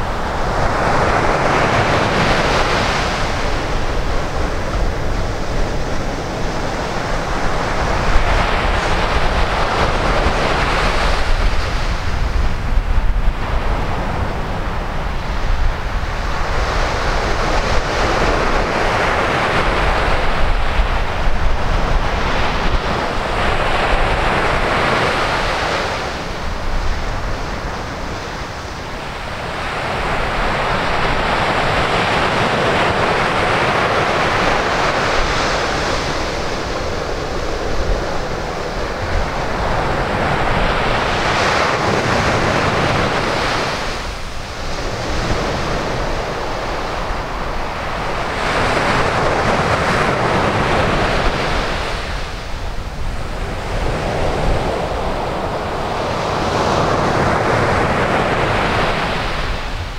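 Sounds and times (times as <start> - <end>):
low wind rumble: 0.0 - 59.9
ocean surf breaking: 0.0 - 59.9.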